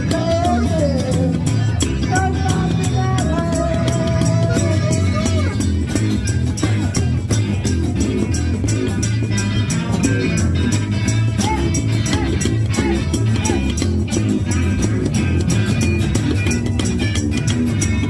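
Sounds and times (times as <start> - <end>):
rockabilly band playing live: 0.0 - 18.0
walking upright bass line: 0.0 - 18.0.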